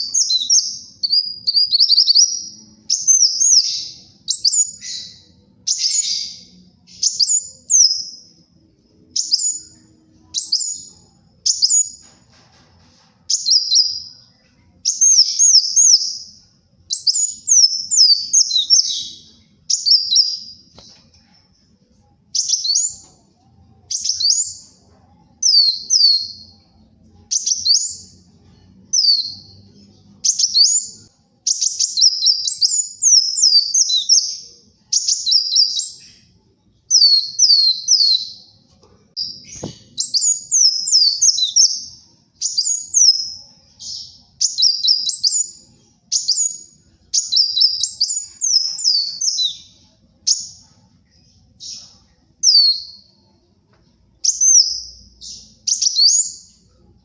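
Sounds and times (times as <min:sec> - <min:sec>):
sunbird twittering song: 0:00.0 - 0:12.1, 0:13.3 - 0:21.4, 0:22.3 - 0:38.6, 0:39.2 - 0:53.2.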